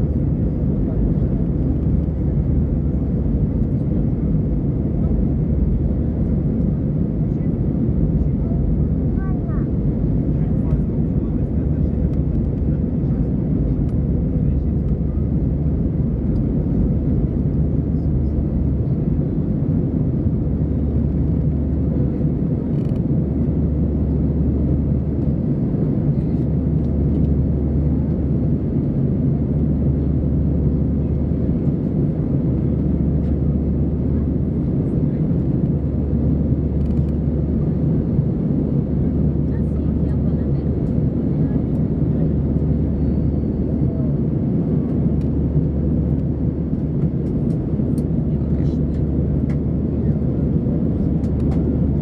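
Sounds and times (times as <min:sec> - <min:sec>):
airflow over fuselage: 0:00.0 - 0:52.0
constant deep hum: 0:00.0 - 0:52.0
jet engines rumbling: 0:00.0 - 0:52.0.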